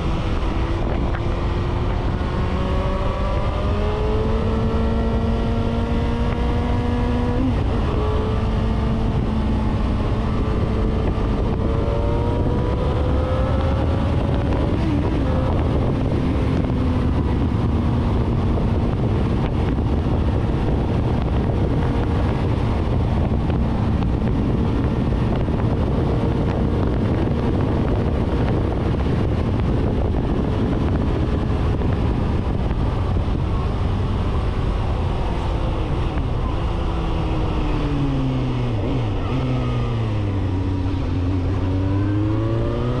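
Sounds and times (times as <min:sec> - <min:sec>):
motorcycle engine accelerating: 0:00.0 - 0:43.0
wind rumble: 0:00.0 - 0:43.0.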